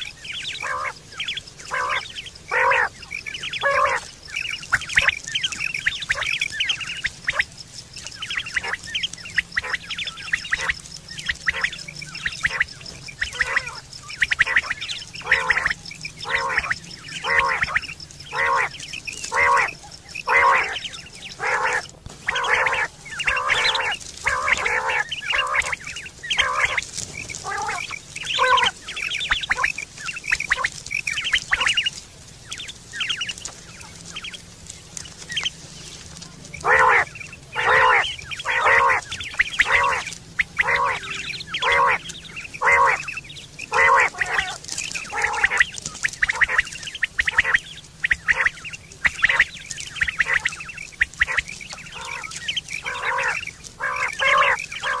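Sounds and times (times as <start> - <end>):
quail calling: 0.0 - 55.0.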